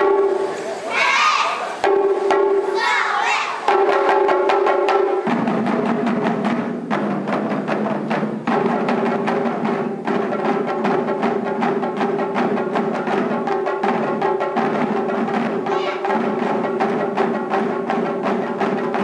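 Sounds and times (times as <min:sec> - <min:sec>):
taiko drums beating: 0:00.0 - 0:19.0.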